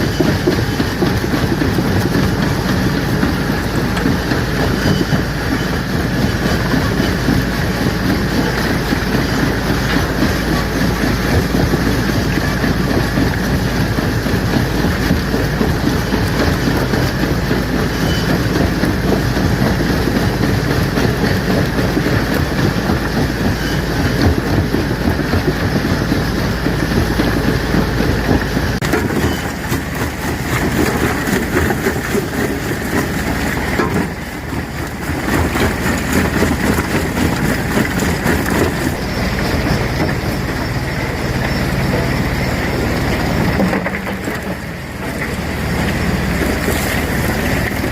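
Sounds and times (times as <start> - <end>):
stone crusher grinding rocks: 0.0 - 47.9.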